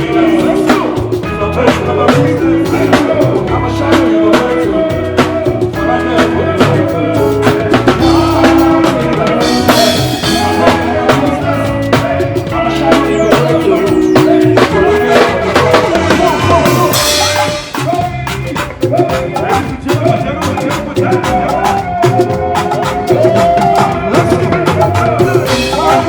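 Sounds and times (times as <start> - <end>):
instrumental party music: 0.0 - 26.0.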